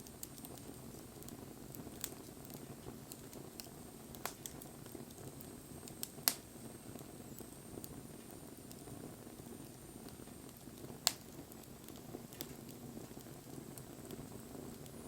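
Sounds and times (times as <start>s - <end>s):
bonfire flame rushing: 0.0s - 15.0s
burning wood crackling: 0.0s - 15.0s.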